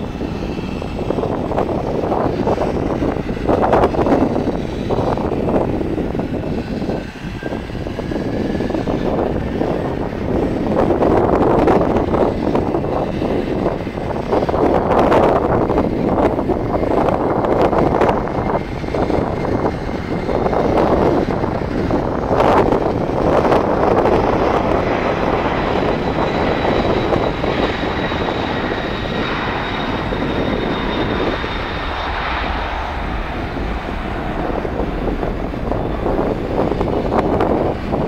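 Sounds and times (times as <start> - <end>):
high engine whine: 0.0 - 38.0
jet engines roaring: 0.0 - 38.0.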